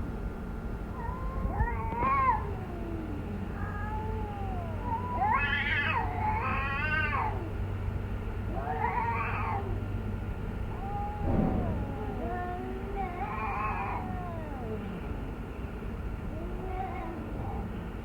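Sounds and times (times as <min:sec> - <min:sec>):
cat yowling: 0:01.0 - 0:07.6, 0:08.4 - 0:10.0, 0:10.6 - 0:15.5, 0:16.2 - 0:18.0.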